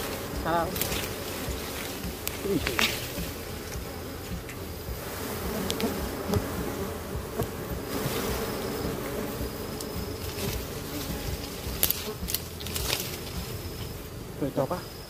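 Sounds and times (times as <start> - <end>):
bees buzzing densely: 0.0 - 15.0.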